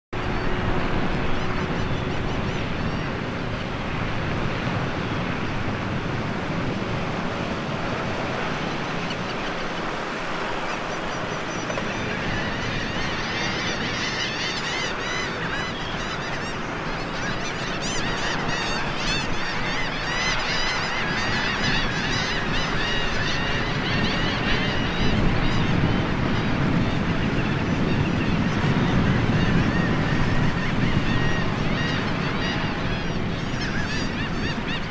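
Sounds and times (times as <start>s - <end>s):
shorebird flock calling: 0.2s - 34.9s
water lapping: 0.2s - 34.9s.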